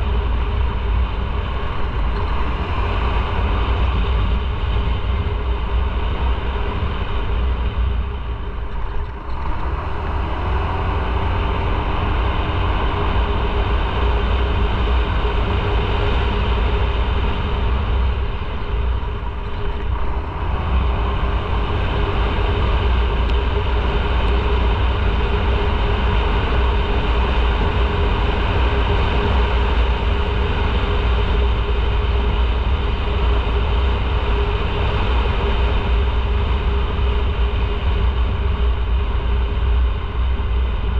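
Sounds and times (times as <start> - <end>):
road noise: 0.0 - 40.9
wind rumble on microphone: 0.0 - 40.9.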